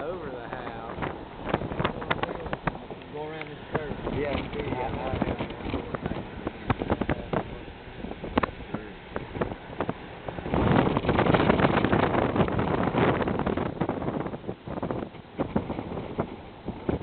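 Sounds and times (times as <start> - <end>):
road and wind noise in car: 0.0 - 17.0.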